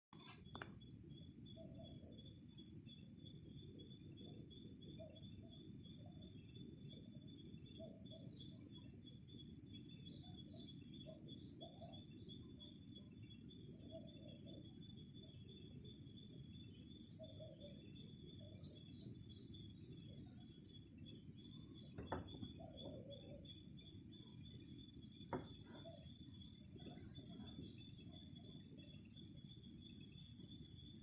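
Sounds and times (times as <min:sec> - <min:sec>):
crickets trilling: 0:00.2 - 0:31.0.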